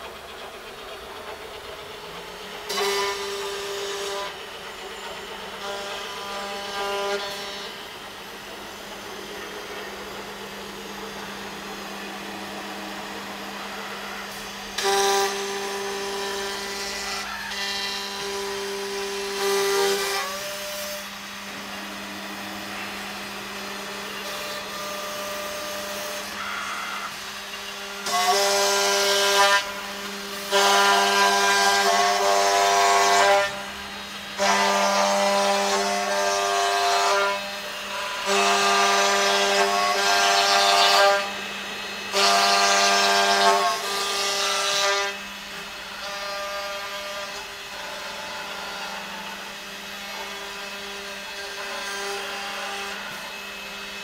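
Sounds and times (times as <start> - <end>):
drill spindle whine cutting wood: 0.0 - 54.0
steady machine hum: 0.0 - 54.0.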